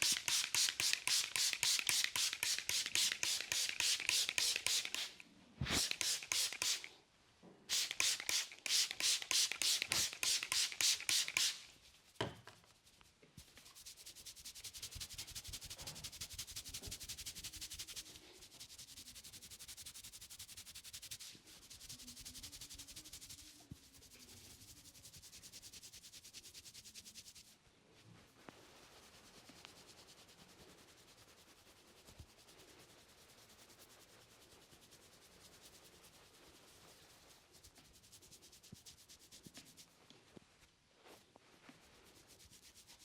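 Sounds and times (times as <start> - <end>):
hands rubbing scalp and hair: 0.0 - 7.0, 7.7 - 27.6, 28.2 - 43.0.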